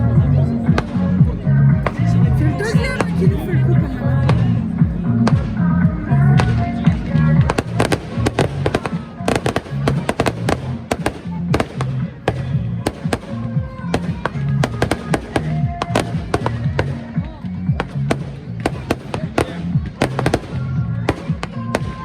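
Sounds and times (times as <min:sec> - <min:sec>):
music: 0:00.0 - 0:22.0
fireworks bangs and crackling: 0:04.2 - 0:22.0.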